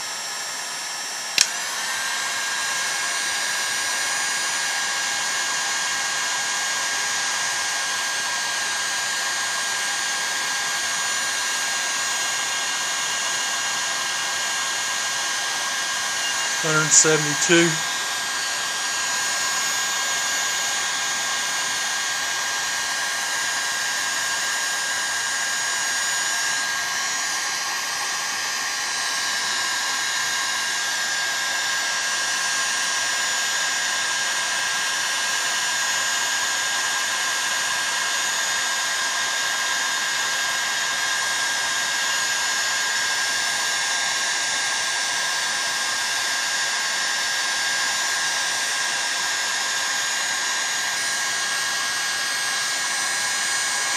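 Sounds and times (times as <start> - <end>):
heat gun running: 0.0 - 53.9.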